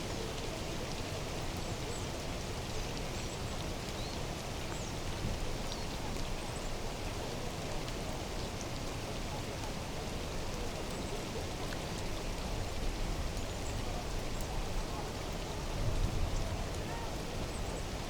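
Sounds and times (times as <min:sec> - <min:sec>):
steady water noise: 0:00.0 - 0:18.0.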